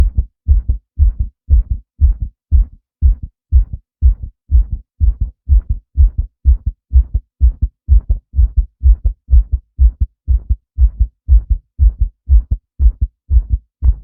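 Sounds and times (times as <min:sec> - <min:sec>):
heartbeat double thump: 0:00.0 - 0:14.0.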